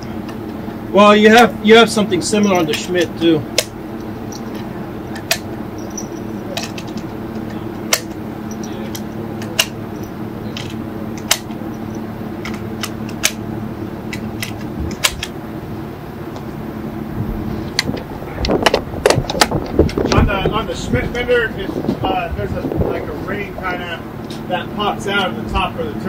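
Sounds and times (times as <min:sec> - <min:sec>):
large fan humming: 0:00.0 - 0:26.0.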